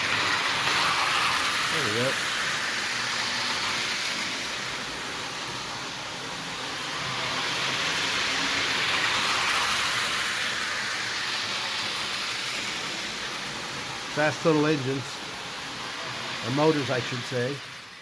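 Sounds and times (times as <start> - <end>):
toy train whirring on track: 0.0 - 18.0.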